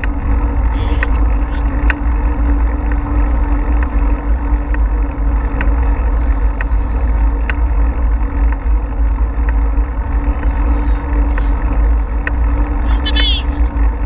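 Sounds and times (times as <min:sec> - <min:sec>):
bicycle tyres on pavement: 0:00.0 - 0:14.0
wind buffeting microphone: 0:00.0 - 0:14.0.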